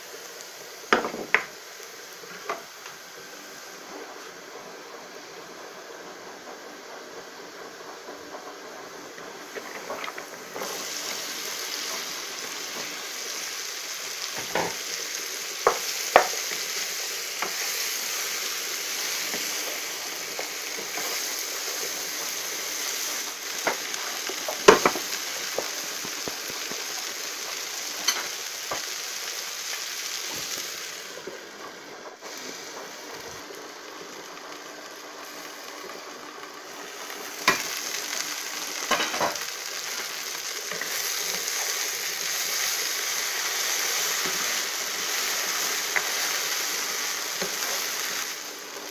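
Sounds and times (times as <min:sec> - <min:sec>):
okra sizzling in a frying pan: 0:00.0 - 0:48.9.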